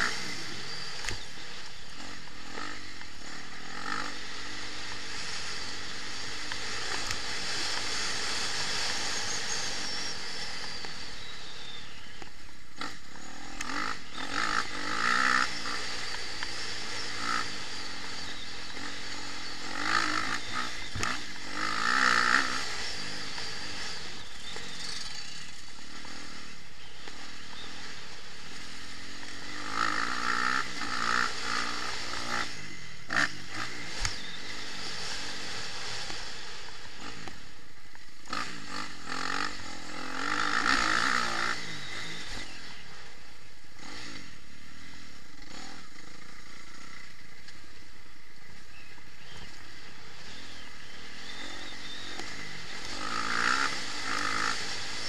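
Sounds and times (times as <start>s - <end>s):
bike rattling: 0.0s - 55.0s
dirt bike engine revving: 0.0s - 55.0s.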